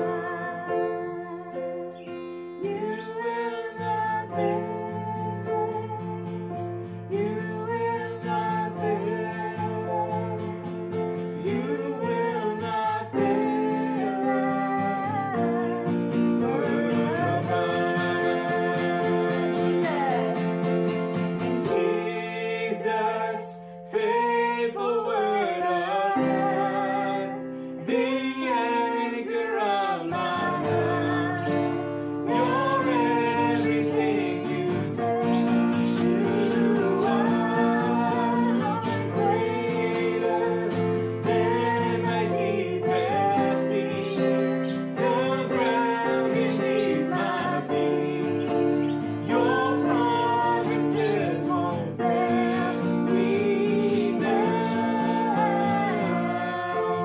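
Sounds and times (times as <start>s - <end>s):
keyboard: 0.0s - 57.0s
man and woman singing: 0.0s - 57.0s
strummed acoustic guitar: 0.0s - 57.0s.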